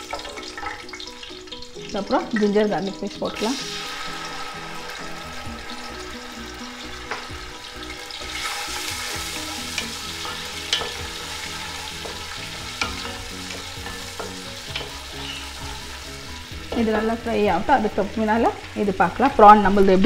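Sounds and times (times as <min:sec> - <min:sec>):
paste sizzling in hot oil: 0:00.0 - 0:20.0.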